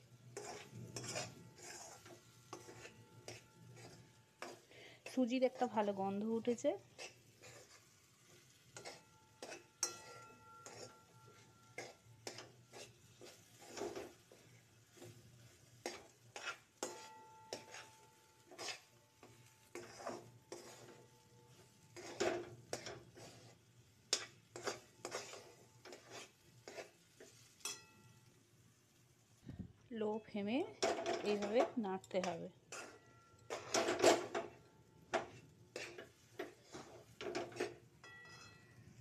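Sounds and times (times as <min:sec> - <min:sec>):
metal spoon scraping a pan: 0:00.0 - 0:28.3, 0:30.7 - 0:39.0.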